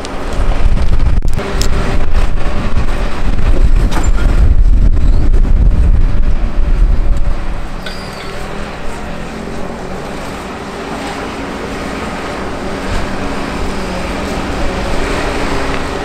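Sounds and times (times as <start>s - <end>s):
excavator working under load: 0.0s - 16.0s.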